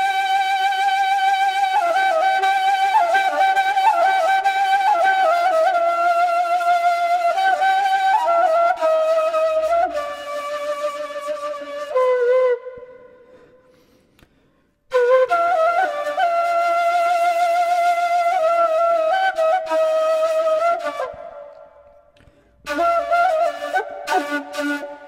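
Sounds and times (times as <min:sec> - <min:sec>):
wooden flute solo: 0:00.0 - 0:13.9, 0:14.9 - 0:25.0.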